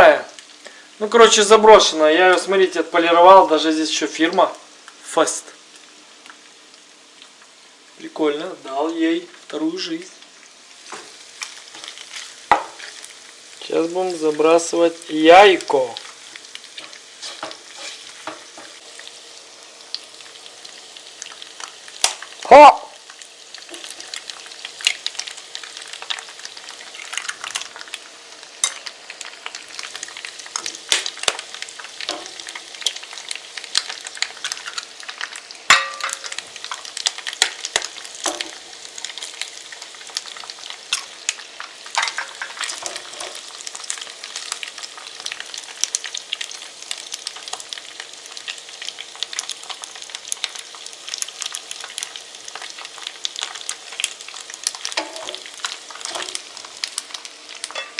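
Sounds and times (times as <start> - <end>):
food sizzling in a pan: 0.0 - 57.9.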